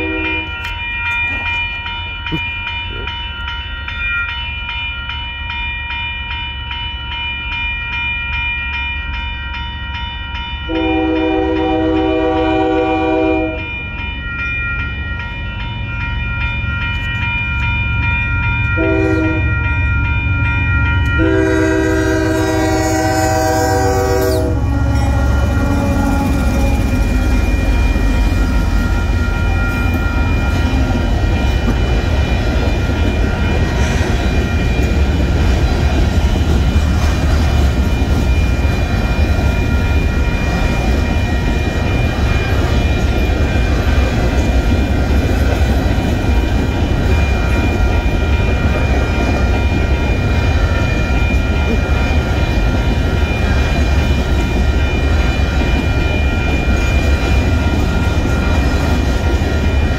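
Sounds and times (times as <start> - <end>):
diesel locomotive passing: 0.0 - 4.2, 10.3 - 59.9
crossing bell ringing: 0.0 - 59.9.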